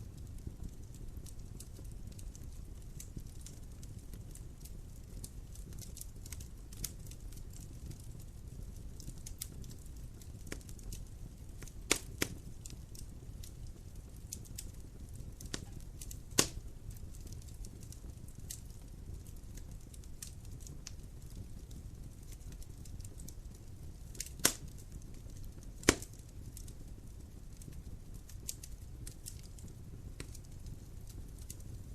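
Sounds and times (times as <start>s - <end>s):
fire crackling: 0.0s - 31.9s
loud pops from burning logs: 0.1s - 31.9s.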